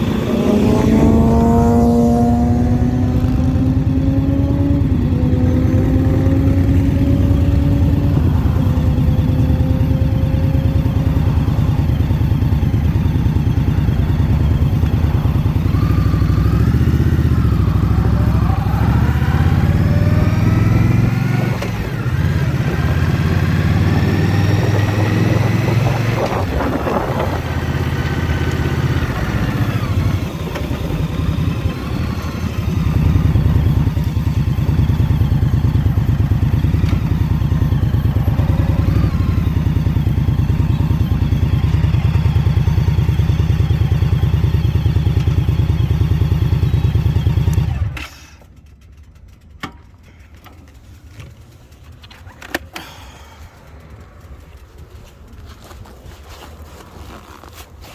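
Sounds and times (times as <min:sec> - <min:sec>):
motorcycle engine revving: 0:00.0 - 0:49.5.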